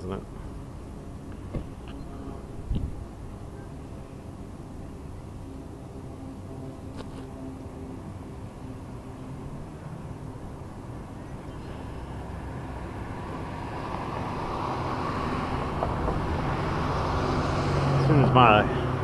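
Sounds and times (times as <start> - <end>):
engine approaching: 0.0 - 19.0.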